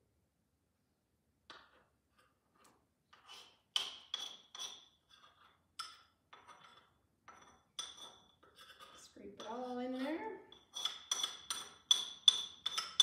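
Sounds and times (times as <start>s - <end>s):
metal utensil scraping bowl: 2.1s - 13.0s.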